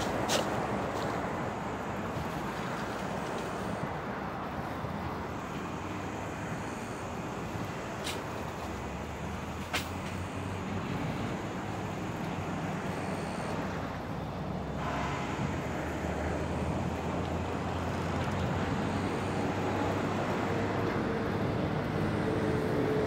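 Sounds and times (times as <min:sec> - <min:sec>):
outdoor noise: 0:00.0 - 0:23.0.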